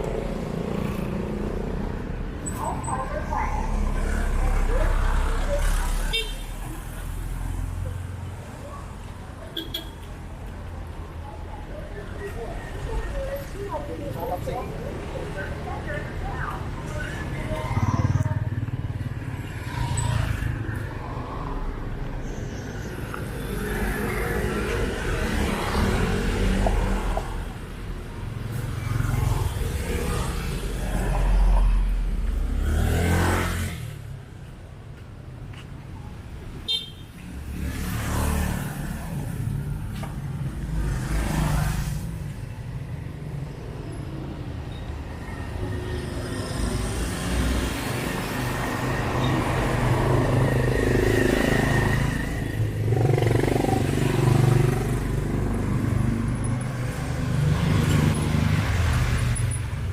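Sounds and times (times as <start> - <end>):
cars and motorcycles passing: 0.0 - 59.9
vehicles driving past: 0.0 - 59.9.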